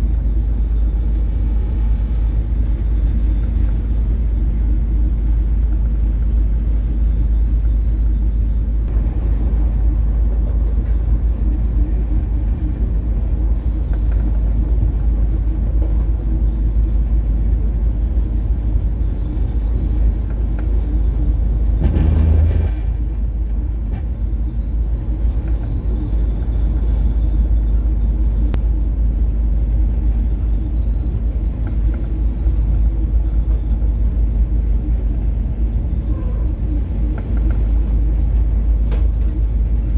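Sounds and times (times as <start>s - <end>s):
ship engine rumble: 0.0s - 39.9s.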